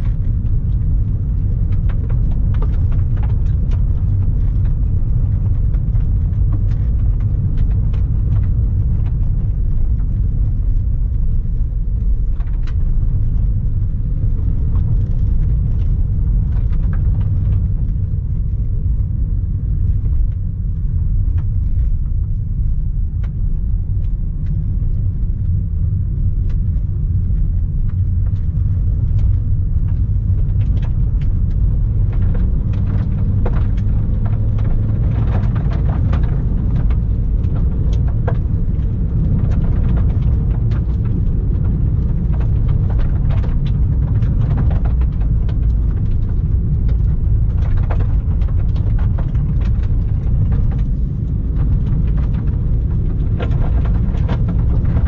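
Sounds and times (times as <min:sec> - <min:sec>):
car rumbling on gravel: 0:00.0 - 0:55.0
gravel ticks and knocks: 0:00.0 - 0:55.0.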